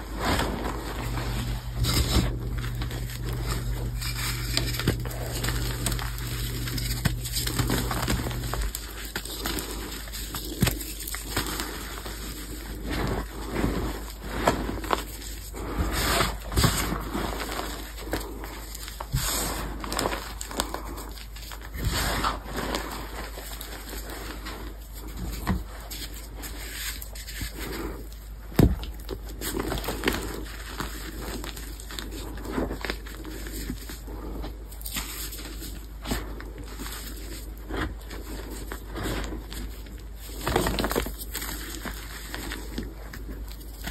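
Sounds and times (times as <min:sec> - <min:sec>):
hands crushing chalk blocks: 0:00.0 - 0:43.9.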